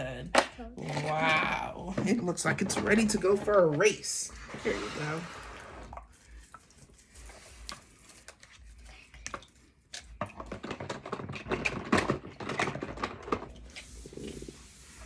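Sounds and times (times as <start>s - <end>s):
plastic toy being handled and scrubbed: 0.2s - 15.0s.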